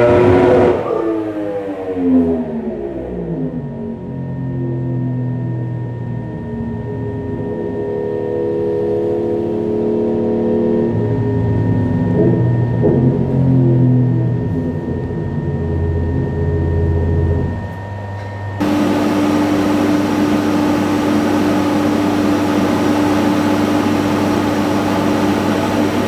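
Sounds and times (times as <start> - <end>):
motorcycle engine on dynamometer: 0.0 - 26.0.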